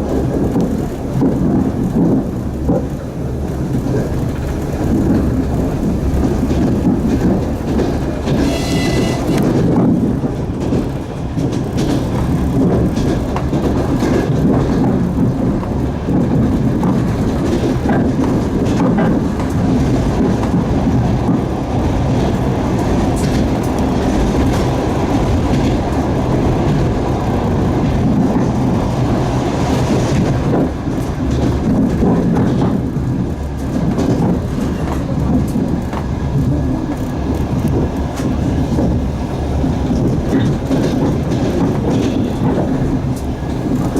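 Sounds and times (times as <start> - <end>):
clickety-clack over rail joints: 0.0 - 43.9
train wheels rumbling on track: 0.0 - 43.9.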